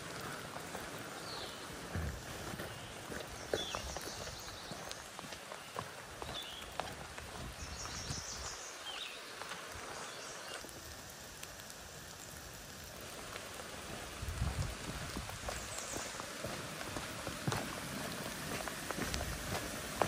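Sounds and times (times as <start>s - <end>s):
footsteps on trail: 0.0s - 12.3s, 13.0s - 20.0s
rain on leaves and river: 0.0s - 20.0s.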